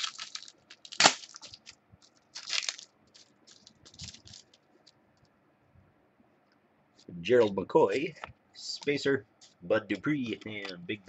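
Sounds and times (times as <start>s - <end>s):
trading cards rustling and clicking: 0.0s - 5.3s, 7.0s - 11.0s.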